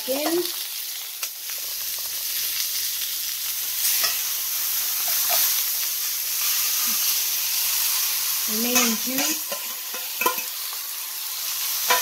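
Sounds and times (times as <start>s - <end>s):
steak sizzling in a skillet: 0.0s - 12.0s.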